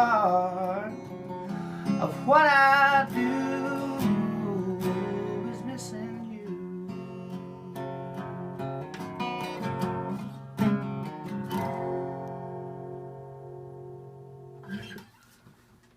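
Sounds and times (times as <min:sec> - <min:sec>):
acoustic guitar strumming chords: 0:00.0 - 0:15.1.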